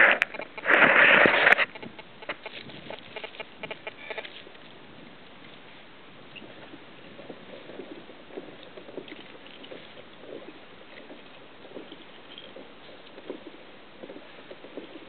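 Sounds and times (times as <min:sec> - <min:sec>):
small waves lapping against hull: 0:00.0 - 0:15.0
steady hiss: 0:00.0 - 0:15.0.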